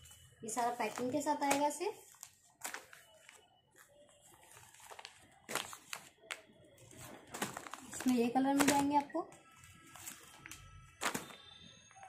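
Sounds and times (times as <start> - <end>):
plastic packaging crinkling: 0.6 - 11.5.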